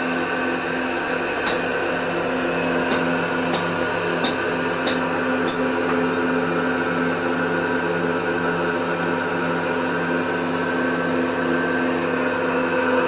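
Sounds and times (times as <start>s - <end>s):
grinding machine humming: 0.0s - 13.0s.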